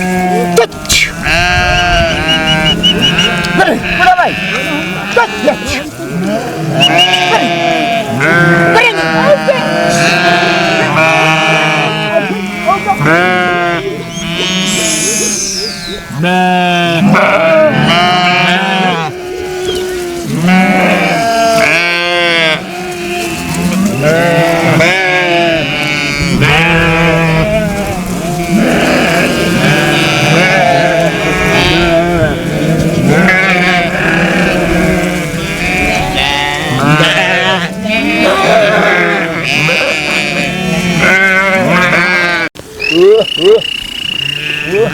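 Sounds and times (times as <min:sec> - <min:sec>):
flock of sheep bleating: 0:00.0 - 0:44.9.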